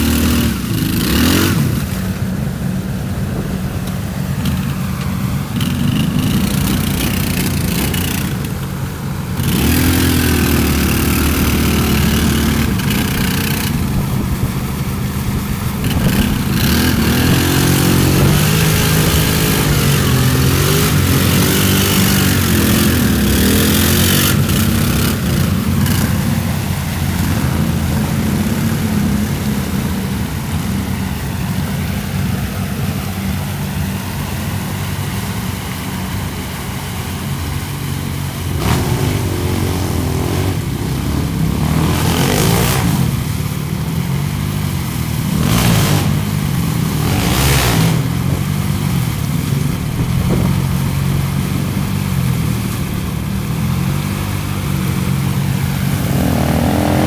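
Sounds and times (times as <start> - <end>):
atv engine revving: 0.0 - 57.0
mud and water splashing: 0.0 - 57.0.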